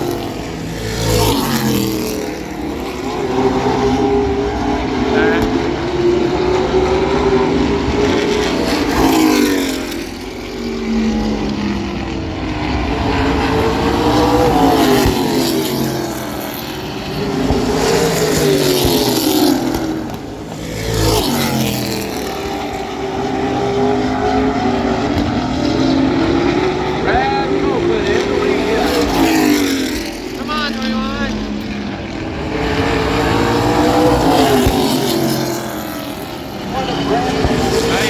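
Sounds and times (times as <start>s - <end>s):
race truck engines passing: 0.0s - 38.0s.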